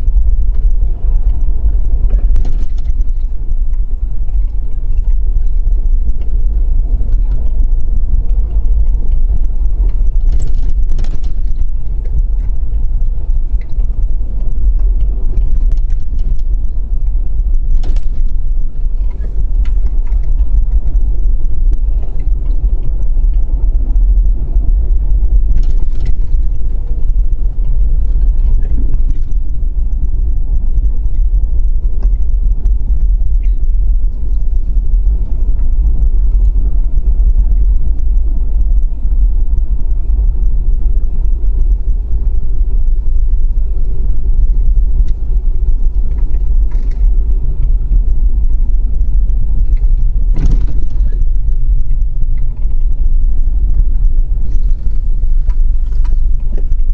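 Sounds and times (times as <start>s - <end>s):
faint rattles: 0.0s - 37.9s, 40.0s - 56.9s
loud low rumble: 0.0s - 56.9s.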